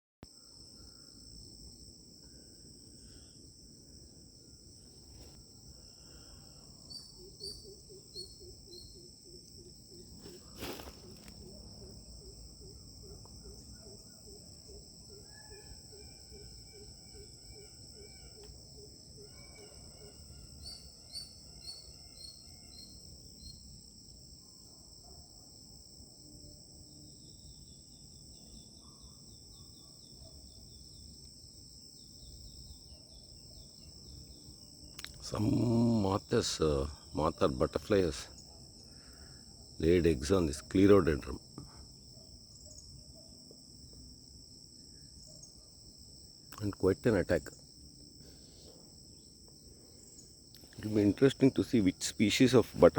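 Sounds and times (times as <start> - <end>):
insects droning: 0.2 - 52.9.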